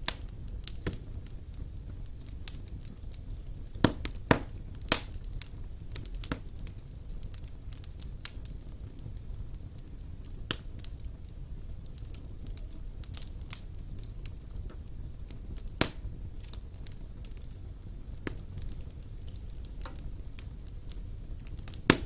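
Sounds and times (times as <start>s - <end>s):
burning logs crackling and popping: 0.0s - 22.0s
wood fire burning: 0.0s - 22.0s.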